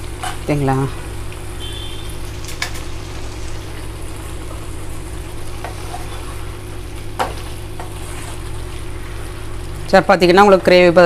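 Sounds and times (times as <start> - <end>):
food simmering in a frying pan: 0.0 - 11.0
steady low hum: 0.0 - 11.0.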